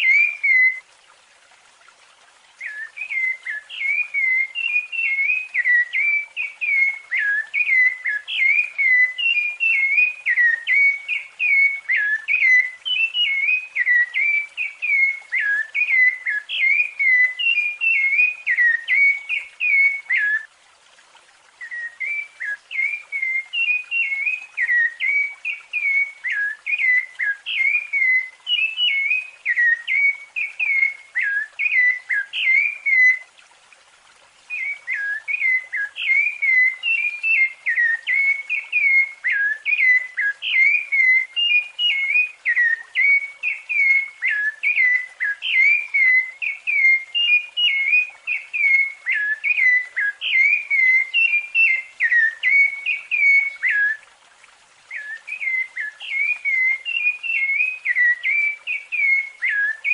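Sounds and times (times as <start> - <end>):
thrush singing whistled notes: 0.0 - 0.9, 2.6 - 20.6, 21.6 - 33.4, 34.4 - 54.2, 54.8 - 59.9.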